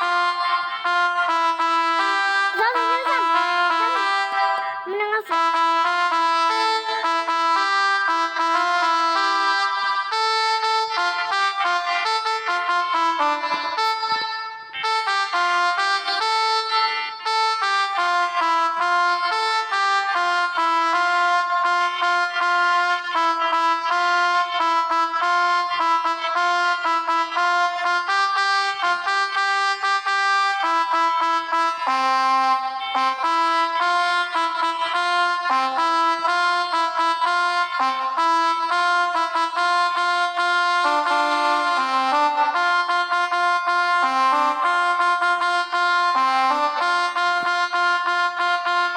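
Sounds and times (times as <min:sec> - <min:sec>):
melodica app playing notes: 0:00.0 - 0:48.9.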